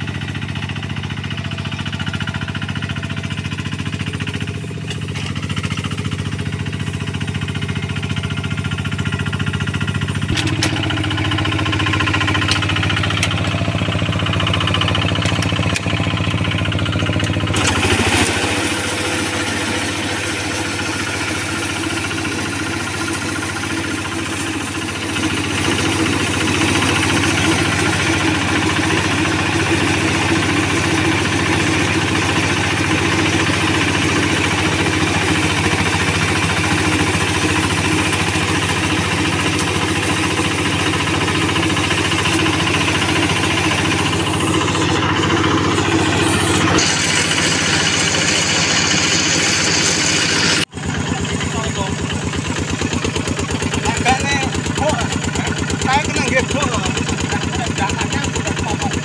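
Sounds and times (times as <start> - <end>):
combine harvester engine running: 0.0 - 59.0
loud mechanical rattle: 0.0 - 59.0.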